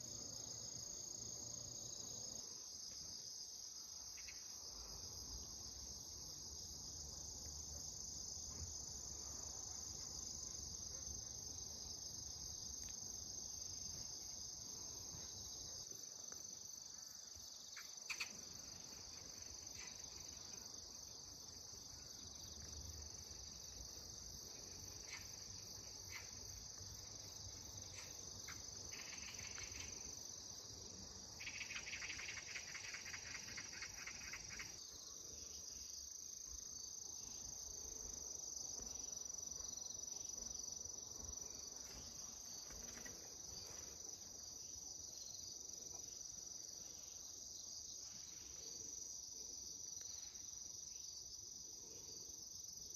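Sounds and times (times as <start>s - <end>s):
crickets chirring: 0.0s - 52.9s
low pulsing insect trill: 0.0s - 52.9s.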